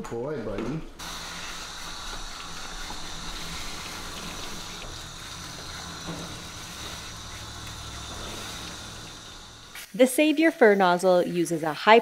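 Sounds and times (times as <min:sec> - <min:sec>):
water spraying into metal tub: 0:01.0 - 0:12.0.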